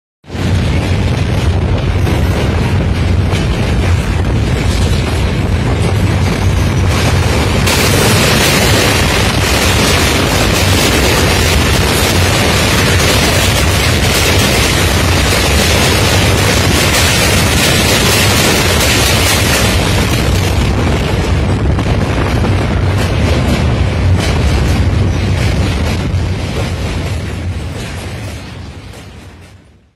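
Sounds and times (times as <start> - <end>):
train wheels rumbling on bridge: 0.2 - 29.9.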